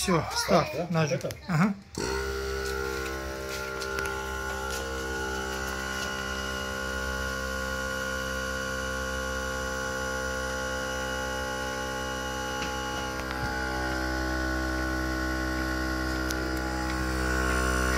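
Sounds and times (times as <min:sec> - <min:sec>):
air compressor humming: 0:01.8 - 0:17.9.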